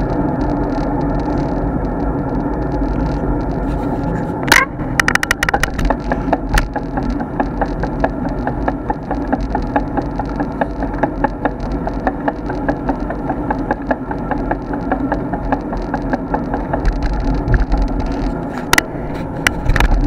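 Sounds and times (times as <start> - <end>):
bicycle rattling over road: 0.0 - 20.0
quick ticks over low rumble: 0.0 - 20.0.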